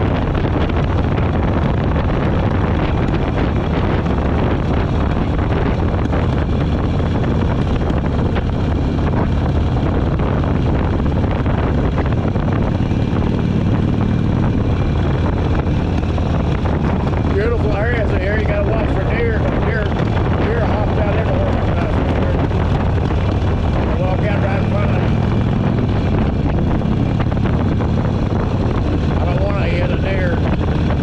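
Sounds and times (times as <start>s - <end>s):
motorcycle engine running: 0.0s - 31.0s
wind rushing over microphone: 0.0s - 31.0s.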